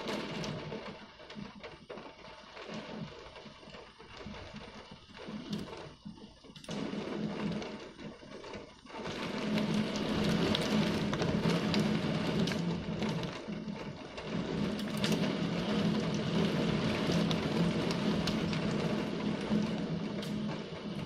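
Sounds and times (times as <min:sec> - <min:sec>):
wind-driven rain on window: 0:00.0 - 0:21.0.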